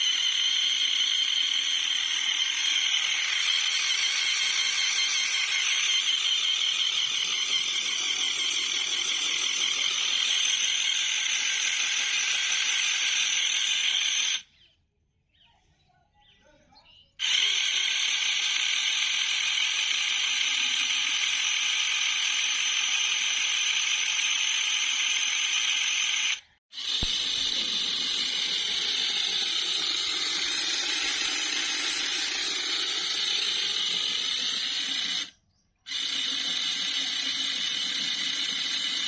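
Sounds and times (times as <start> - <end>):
toy electric motor whine: 0.0 - 14.6, 17.2 - 39.0.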